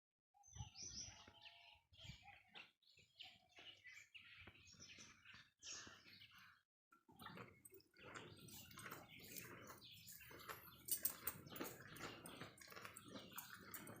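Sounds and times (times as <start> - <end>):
birds chirping: 0.4 - 14.0.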